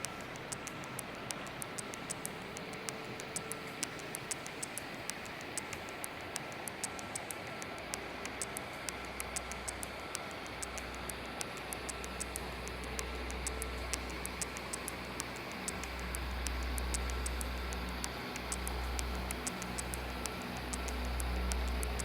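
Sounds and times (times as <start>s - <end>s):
faint high ticks: 0.0s - 22.0s.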